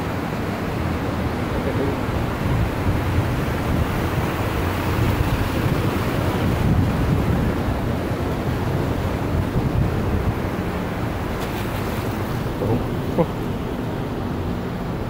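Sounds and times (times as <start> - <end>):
floodwater rushing across street: 0.0 - 15.0
wind buffeting microphone: 0.8 - 15.0.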